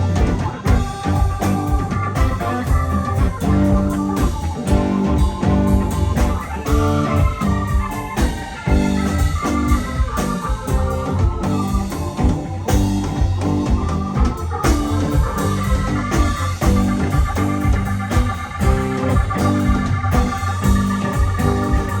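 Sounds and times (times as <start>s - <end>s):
bass: 0.0s - 22.0s
organ: 0.0s - 22.0s
steady drum beat: 0.0s - 22.0s.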